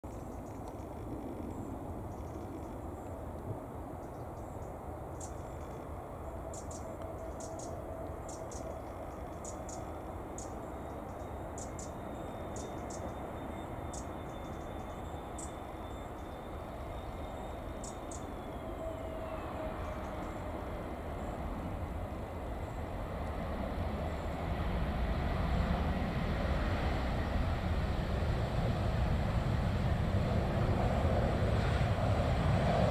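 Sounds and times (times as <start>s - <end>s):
jet airliner rumble: 0.1s - 32.9s.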